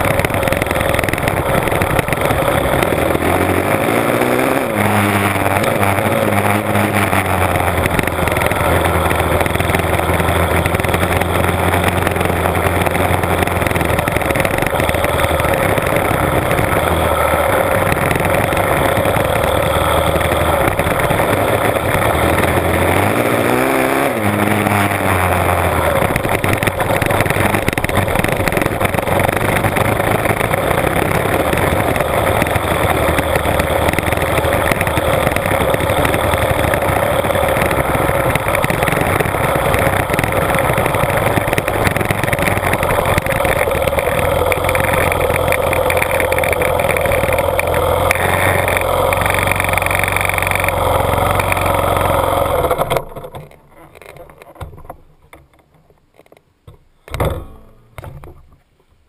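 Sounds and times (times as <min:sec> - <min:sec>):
dirt bike engine revving: 0:00.0 - 0:53.4.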